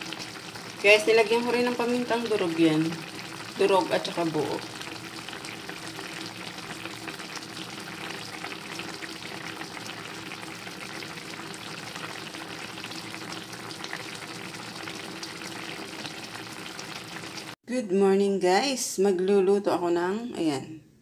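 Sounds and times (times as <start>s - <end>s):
broth simmering and sizzling: 0.0s - 17.6s.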